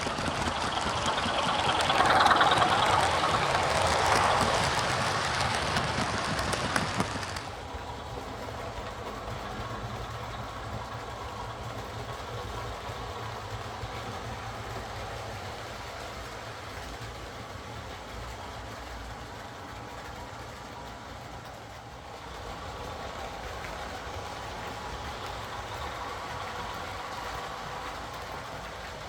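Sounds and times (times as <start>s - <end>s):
model locomotive diesel engine sound: 0.0s - 29.0s.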